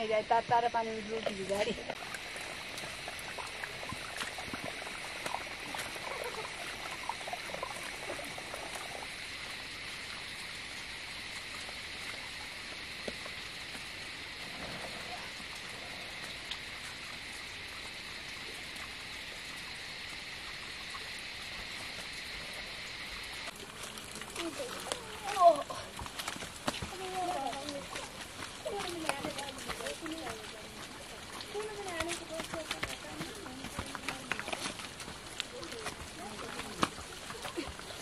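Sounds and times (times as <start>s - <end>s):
outdoor background hiss: 0.0s - 38.0s.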